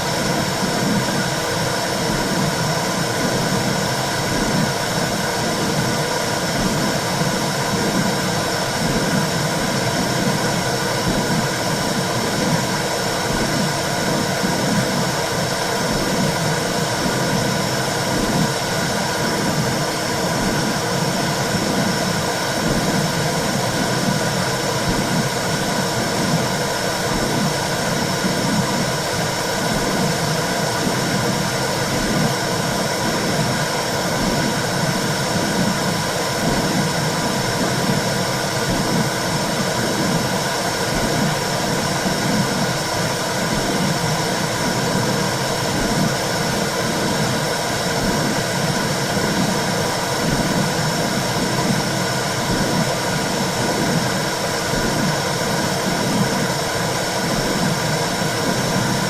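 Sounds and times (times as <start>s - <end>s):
low regular pulse beating: 0.0s - 59.0s.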